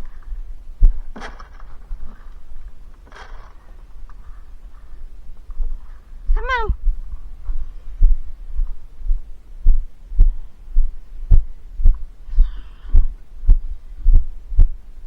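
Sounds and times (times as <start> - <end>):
footsteps walking: 0.0 - 14.8.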